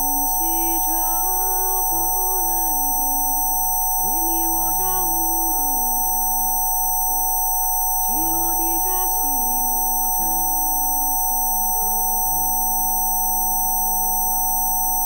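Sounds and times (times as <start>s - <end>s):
steady sine tones: 0.0s - 15.0s.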